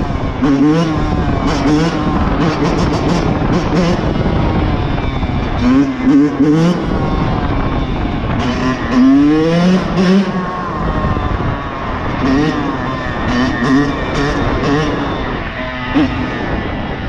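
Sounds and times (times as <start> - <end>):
low wind rumble: 0.0 - 17.0
motorcycle engine revving: 0.0 - 17.0.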